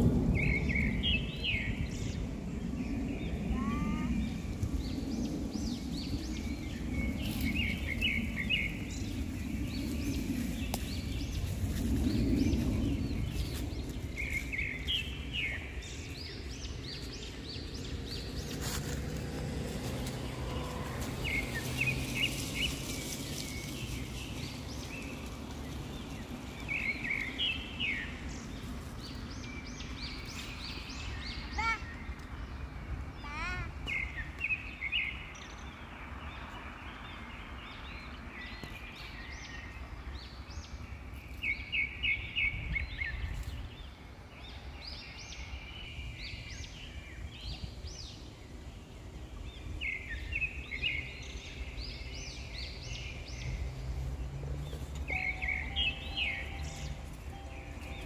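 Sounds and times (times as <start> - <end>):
songbird chirps and song: 0.0 - 58.0
steady low rumble: 0.0 - 58.0.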